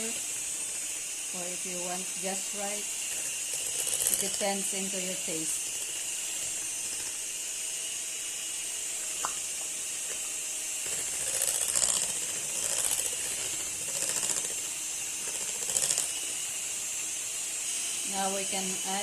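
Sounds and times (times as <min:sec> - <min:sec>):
electric hand mixer running: 0:00.0 - 0:19.0.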